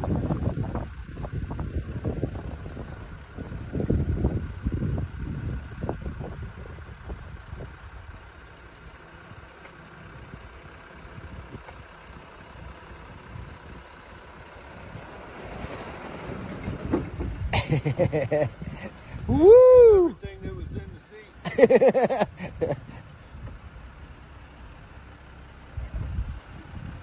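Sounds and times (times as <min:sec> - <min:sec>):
car engine running slowly: 0:00.0 - 0:27.0.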